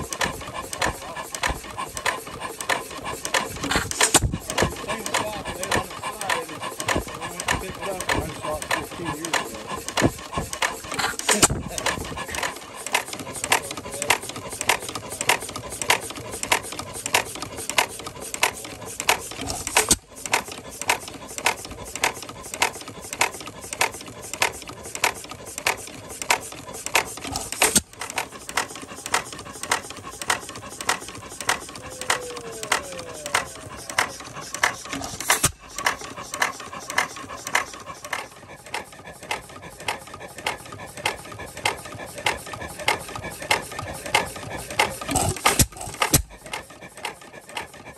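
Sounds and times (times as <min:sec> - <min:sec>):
gears and linkage clattering: 0:00.0 - 0:47.9
stationary engine running: 0:00.0 - 0:47.9.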